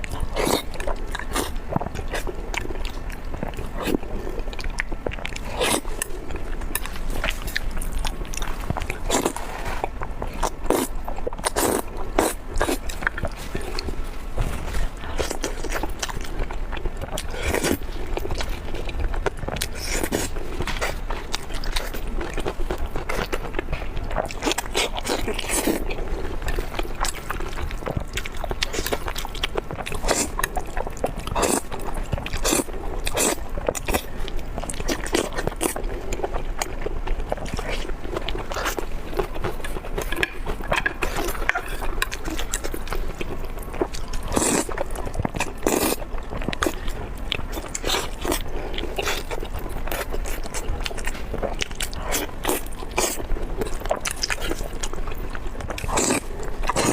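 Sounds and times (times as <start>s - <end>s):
chewing with sharp crunches: 0.0s - 56.9s.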